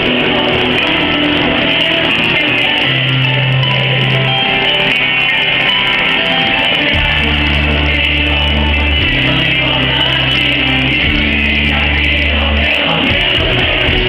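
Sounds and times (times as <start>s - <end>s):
held bass notes: 0.0s - 14.0s
pop-rock band guitar passage: 0.0s - 14.0s.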